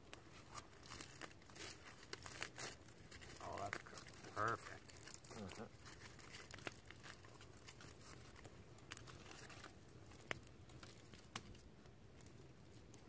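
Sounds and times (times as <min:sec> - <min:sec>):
faint sharp crackles and clicks: 0:00.0 - 0:13.0.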